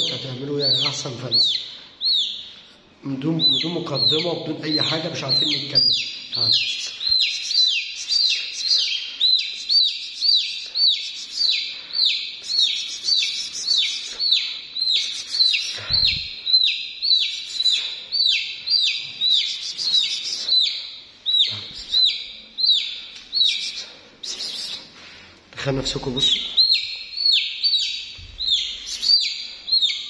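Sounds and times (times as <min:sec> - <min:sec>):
chick peeping: 0:00.0 - 0:02.6, 0:03.2 - 0:24.8, 0:25.8 - 0:30.0.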